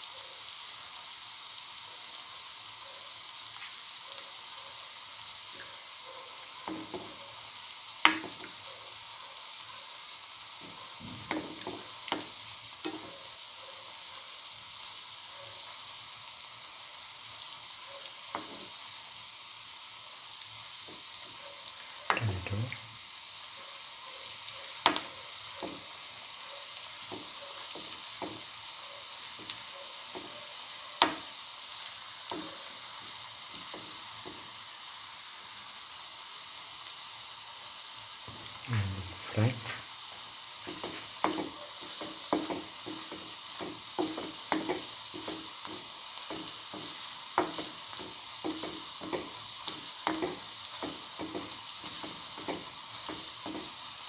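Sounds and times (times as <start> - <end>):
fritters sizzling in oil: 0.0 - 54.0.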